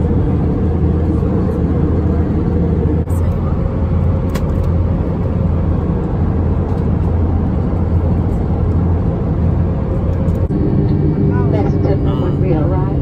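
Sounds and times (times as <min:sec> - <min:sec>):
airplane cabin drone: 0:00.0 - 0:13.0
faint steady whine: 0:00.0 - 0:13.0.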